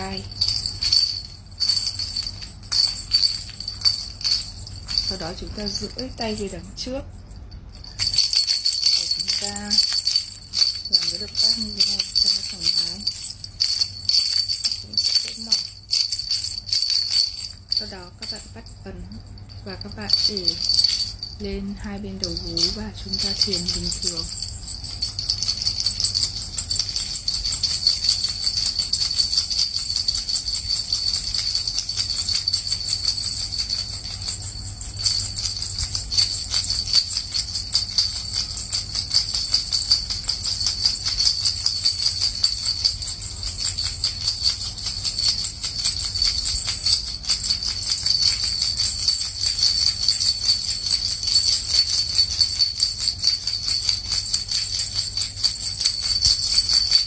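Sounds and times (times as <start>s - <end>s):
small jingle bells jingling: 0.0s - 57.0s.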